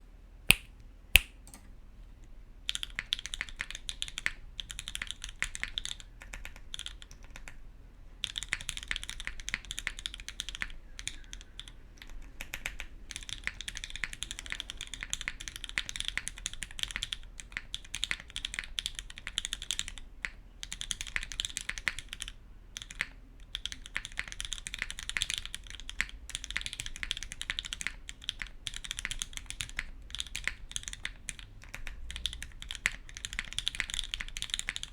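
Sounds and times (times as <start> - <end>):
mechanical keyboard typing: 2.7 - 7.6, 8.2 - 34.9.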